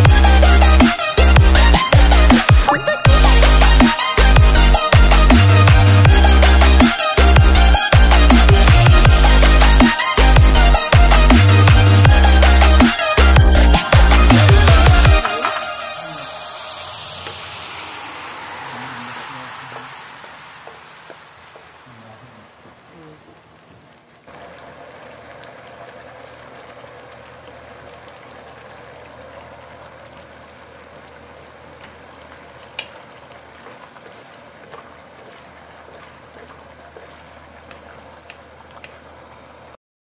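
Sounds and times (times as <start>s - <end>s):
sauce bubbling and sizzling: 0.0s - 39.8s.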